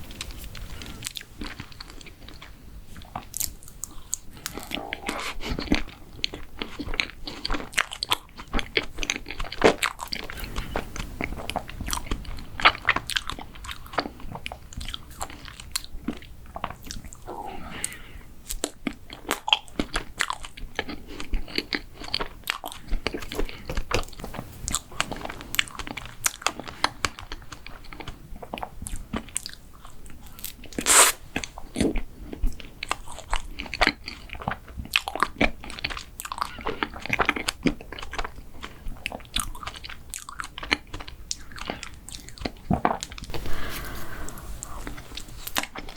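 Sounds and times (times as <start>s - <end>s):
chewing and crunching: 0.0s - 45.9s.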